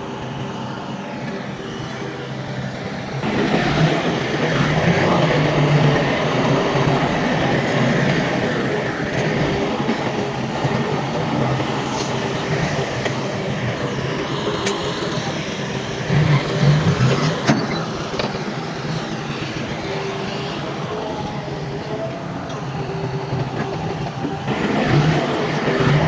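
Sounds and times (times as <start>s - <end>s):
heavy machinery running: 0.0s - 26.0s.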